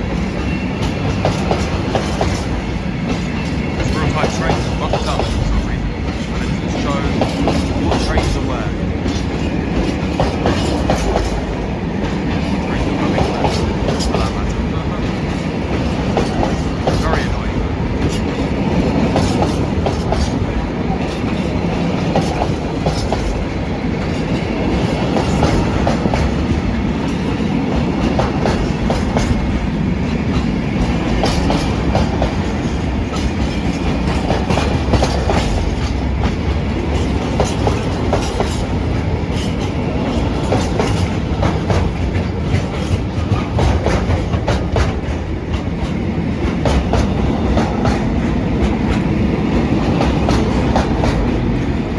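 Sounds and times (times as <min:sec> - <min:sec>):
freight train rolling past: 0:00.0 - 0:51.9
wheels clattering over rail joints: 0:00.0 - 0:51.9.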